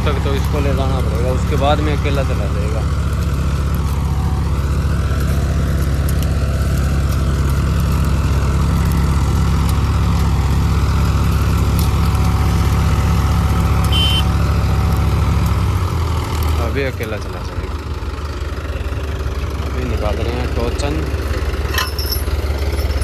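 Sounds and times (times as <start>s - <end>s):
tractor diesel engines under load: 0.0s - 23.0s.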